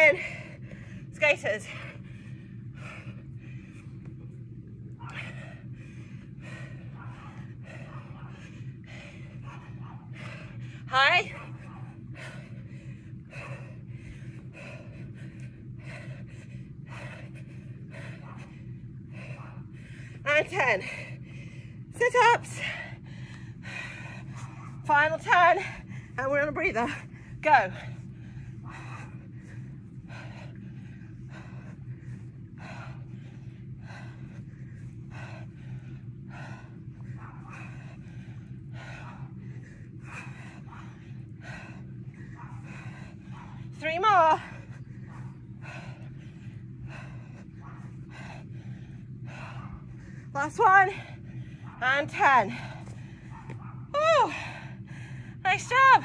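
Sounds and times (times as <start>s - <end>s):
low hum: 0.0s - 56.0s
woman breathing hard: 0.0s - 56.0s.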